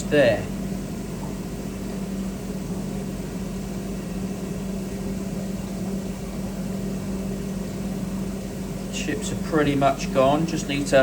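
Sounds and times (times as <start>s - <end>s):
grinding machine motor hum: 0.0s - 11.0s.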